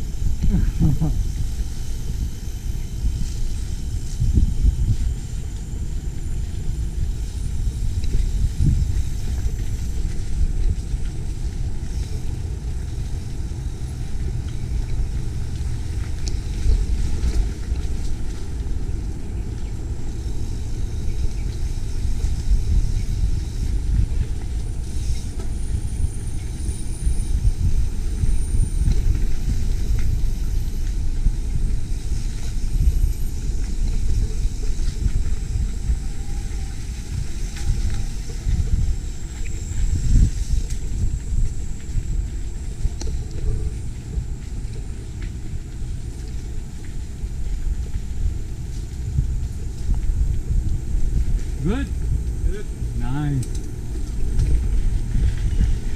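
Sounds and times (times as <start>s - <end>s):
bike rolling over dirt trail: 0.0s - 52.9s, 53.5s - 55.9s
wind: 0.0s - 55.9s.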